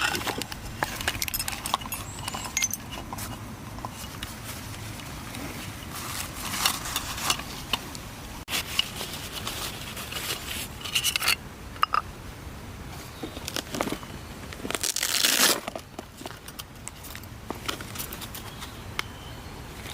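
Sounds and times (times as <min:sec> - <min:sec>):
small objects rustling and crinkling: 0:00.0 - 0:11.4, 0:12.9 - 0:18.8.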